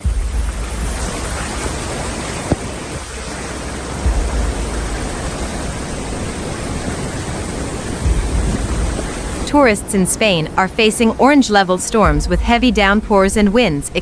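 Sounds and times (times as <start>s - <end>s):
water rushing: 0.0s - 14.0s
wind buffeting microphone: 0.0s - 14.0s.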